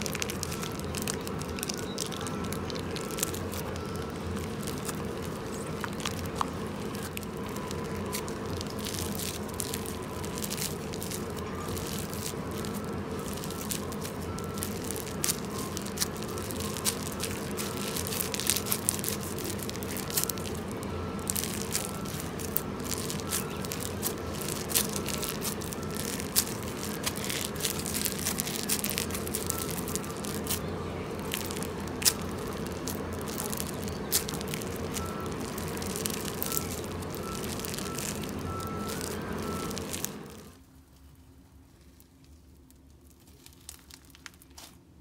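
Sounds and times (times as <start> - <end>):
slime crackling: 0.0 - 40.6, 41.8 - 44.8.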